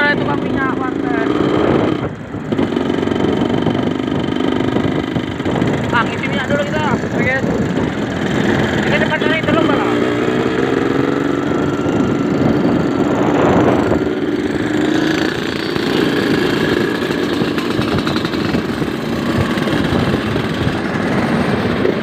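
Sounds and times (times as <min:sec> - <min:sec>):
two-stroke motorcycle engine running: 0:00.0 - 0:22.0.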